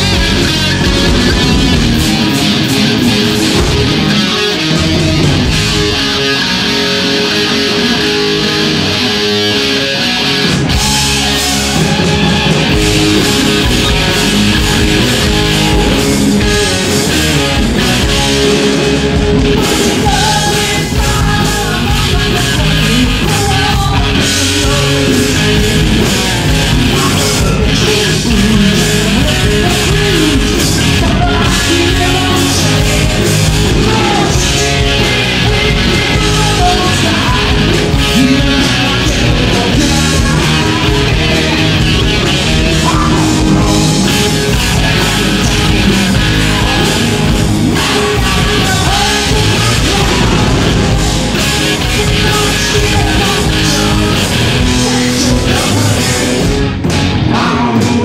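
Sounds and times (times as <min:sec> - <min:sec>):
rock band playing live: 0:00.0 - 0:58.0
man singing lead: 0:10.4 - 0:58.0.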